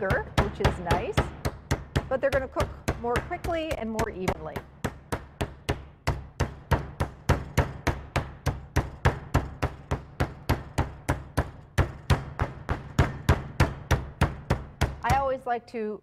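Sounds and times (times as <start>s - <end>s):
meat mallet thudding on chicken: 0.0s - 15.1s.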